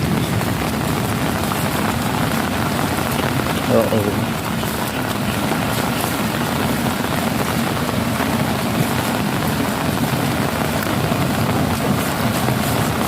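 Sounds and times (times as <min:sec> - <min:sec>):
heavy rain pouring on puddles: 0:00.0 - 0:13.0.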